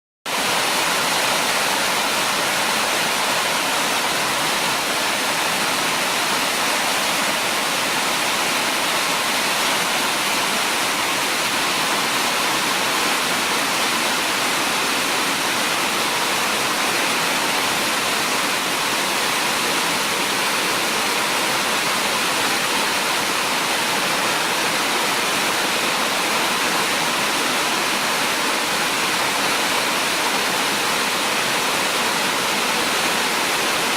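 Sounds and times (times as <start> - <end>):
heavy rain falling: 0.3 - 33.9.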